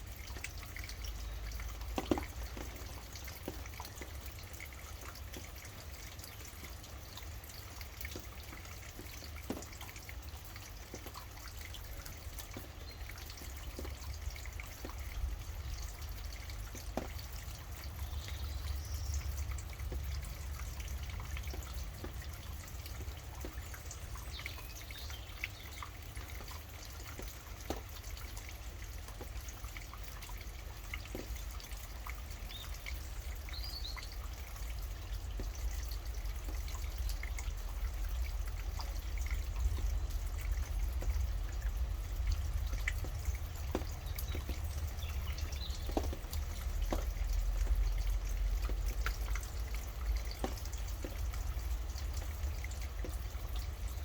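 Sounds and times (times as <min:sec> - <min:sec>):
drops dripping close by: 0:00.0 - 0:54.0
steady rain: 0:00.0 - 0:54.0.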